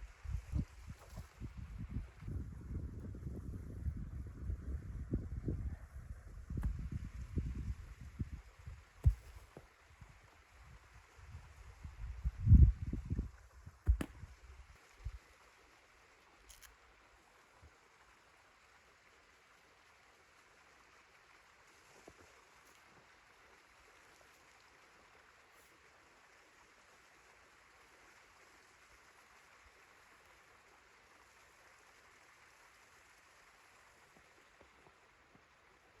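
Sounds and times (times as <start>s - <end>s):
faint steady hiss: 5.4s - 36.0s.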